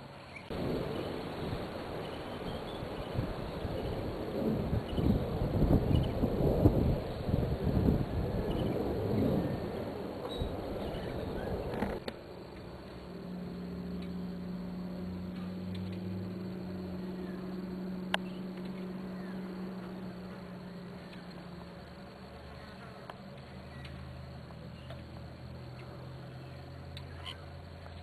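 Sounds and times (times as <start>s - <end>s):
rumbling rush: 0.0s - 26.8s.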